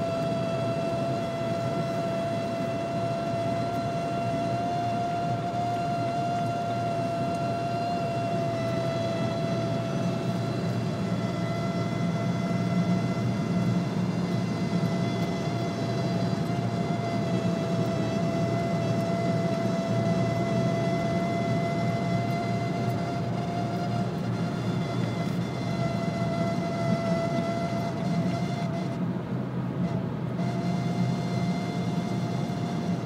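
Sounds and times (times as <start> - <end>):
dashboard whistling squeal: 0.0 - 29.0, 29.8 - 33.0
road and engine rumble: 0.0 - 33.0.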